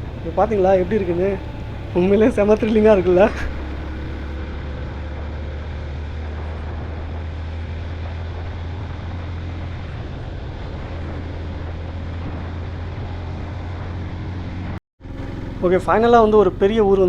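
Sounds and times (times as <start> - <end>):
motorcycle engine drone: 0.0 - 17.0
road noise: 0.0 - 17.0
wind noise: 0.0 - 17.0.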